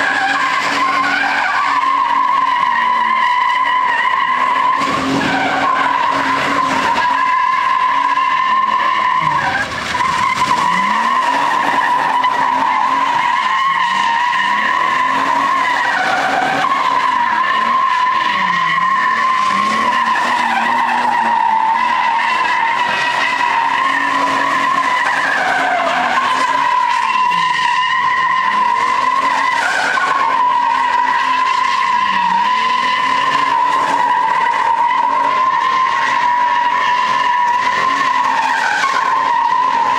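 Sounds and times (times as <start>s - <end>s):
engine at high revs: 0.0s - 39.9s
tyres squealing: 0.0s - 39.9s.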